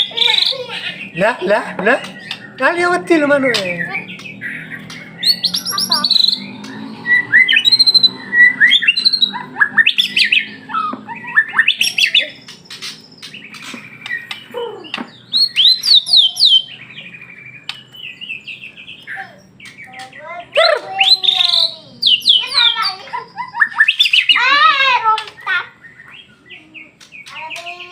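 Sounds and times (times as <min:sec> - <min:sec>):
songbird singing: 0:00.0 - 0:27.9.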